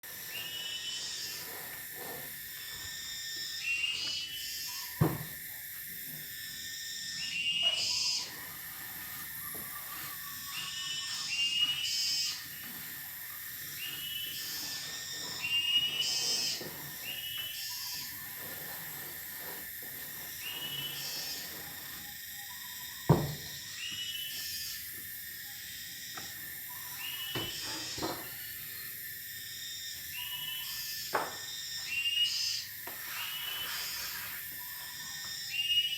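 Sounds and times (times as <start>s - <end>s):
cicadas droning: 0.0s - 35.9s.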